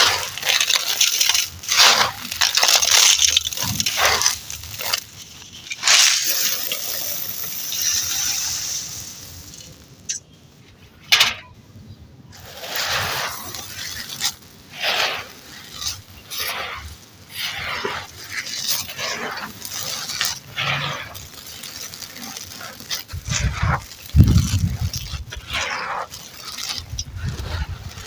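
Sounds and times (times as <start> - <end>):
sharp crack: 0.0 - 10.4, 12.3 - 28.0
gritty material crunching: 0.0 - 11.6, 12.3 - 28.0.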